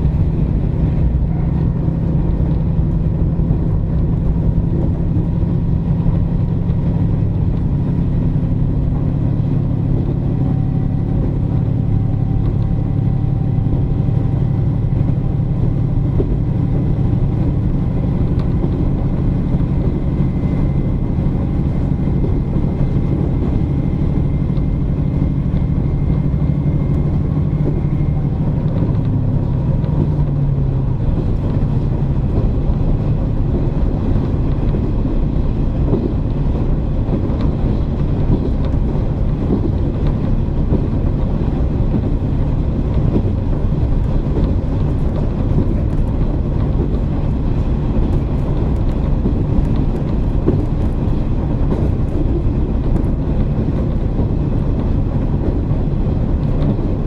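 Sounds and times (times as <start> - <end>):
diesel engine drone: 0.0 - 57.0
train wheel and running noise: 0.0 - 57.0.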